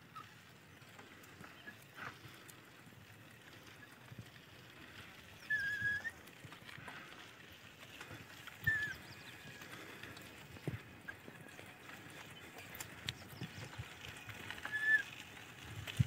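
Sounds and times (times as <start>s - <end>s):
bicycle rattling on dirt track: 0.0s - 16.0s.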